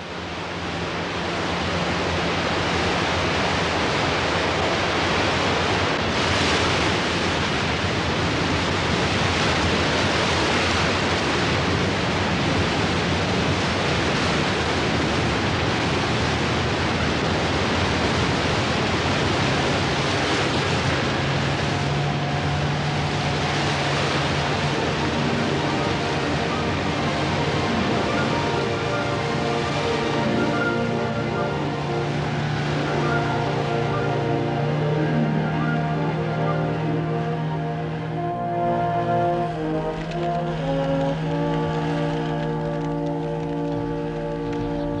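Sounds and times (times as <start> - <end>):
waterfall rushing: 0.0 - 45.0
white-water rapids churning: 0.0 - 45.0.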